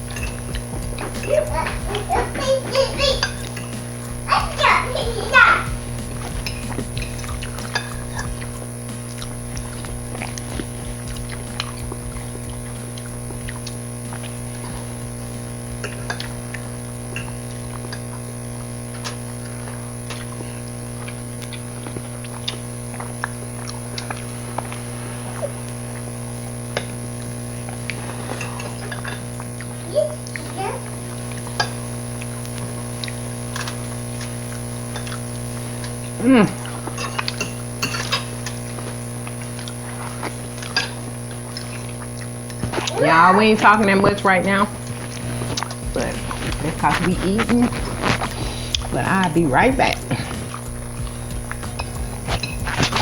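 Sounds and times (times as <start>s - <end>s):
utensils on plates: 0.0s - 18.2s, 26.7s - 30.4s, 31.2s - 53.0s
chewing: 0.0s - 53.0s
electrical hum: 0.0s - 53.0s.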